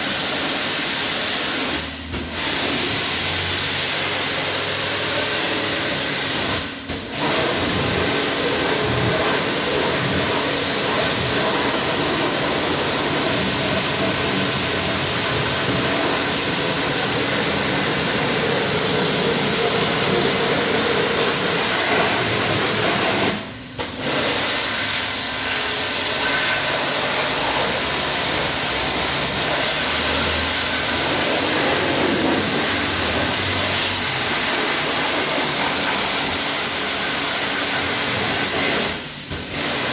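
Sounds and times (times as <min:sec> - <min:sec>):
pressure washer spraying water: 0:00.0 - 0:39.9
washer pump running: 0:00.0 - 0:39.9.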